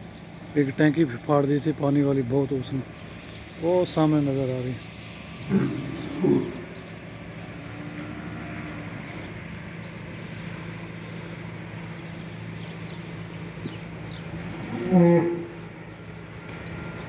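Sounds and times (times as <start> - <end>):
low machine hum: 0.0 - 17.0
small birds chirping: 0.0 - 17.0.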